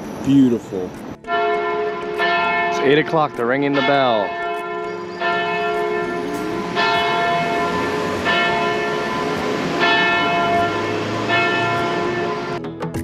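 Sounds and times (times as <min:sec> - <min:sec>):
church bell striking: 0:01.2 - 0:12.6.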